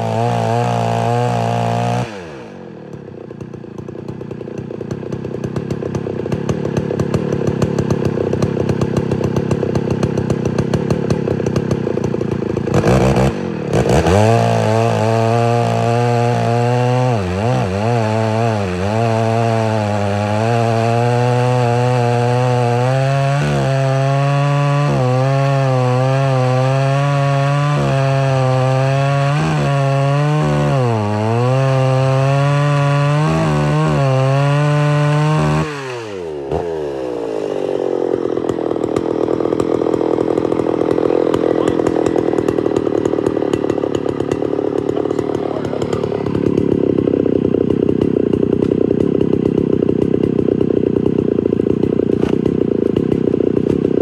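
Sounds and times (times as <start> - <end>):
chainsaw cutting a log: 0.0 - 54.0.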